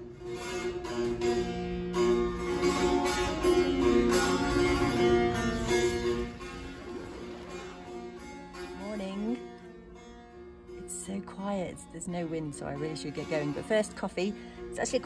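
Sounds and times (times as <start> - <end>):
plucked sitar melody: 0.0 - 15.0.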